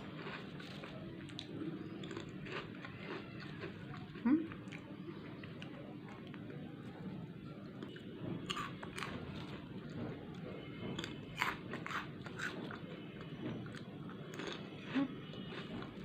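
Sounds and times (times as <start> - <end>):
person chewing crisp chips: 0.0 - 6.6, 7.8 - 10.0, 11.0 - 16.0.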